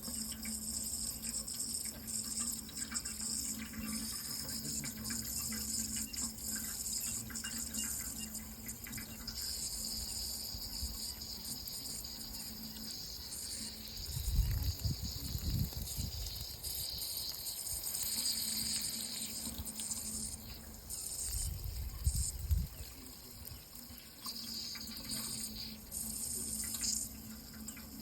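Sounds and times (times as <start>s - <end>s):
insect chorus: 0.0s - 28.0s
running water: 0.0s - 28.0s.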